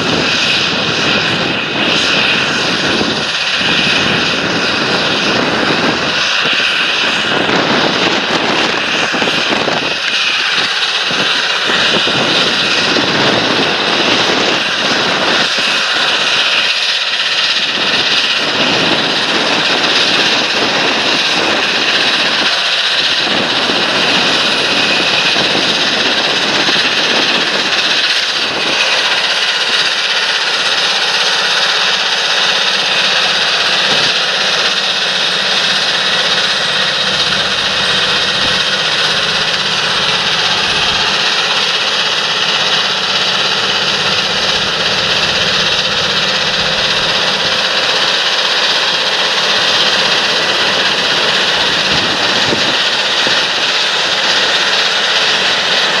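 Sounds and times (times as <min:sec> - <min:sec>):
high whine: 0:00.0 - 0:56.0
tractor engine drone: 0:00.0 - 0:56.0.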